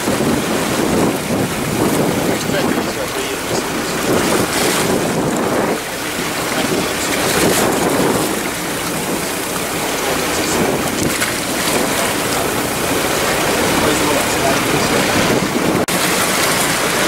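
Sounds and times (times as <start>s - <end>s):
water rushing along boat: 0.0s - 17.0s
wind buffeting microphone: 0.0s - 17.0s.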